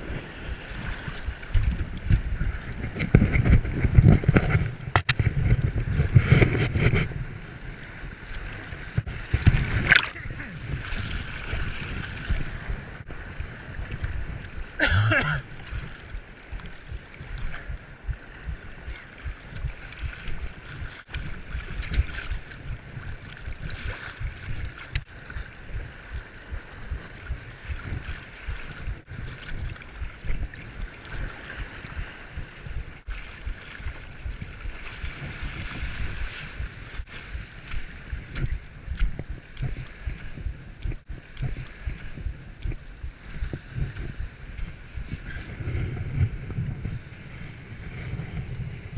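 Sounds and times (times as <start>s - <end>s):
waves washing over shoreline: 0.0s - 48.9s
wind buffeting microphone: 0.0s - 48.9s.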